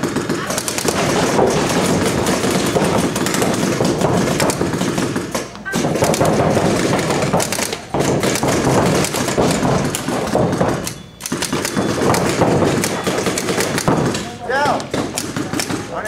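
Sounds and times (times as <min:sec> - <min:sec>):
paintball markers firing: 0:00.0 - 0:16.0.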